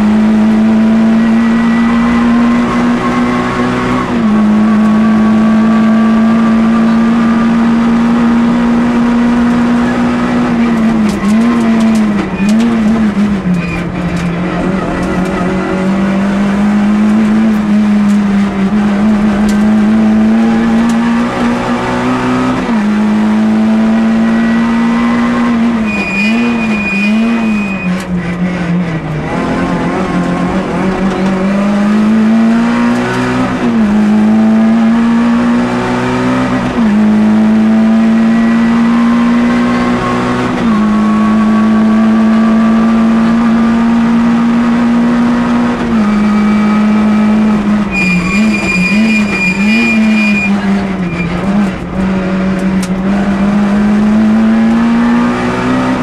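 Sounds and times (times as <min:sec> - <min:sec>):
car engine at high revs: 0:00.0 - 0:56.0.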